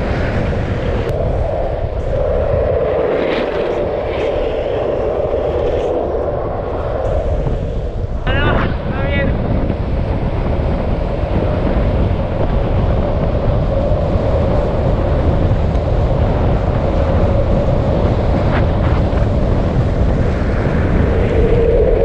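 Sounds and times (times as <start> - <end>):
longboard wheels rolling on asphalt: 0.0 - 8.2, 9.4 - 22.0
wind on camera microphone: 0.0 - 22.0.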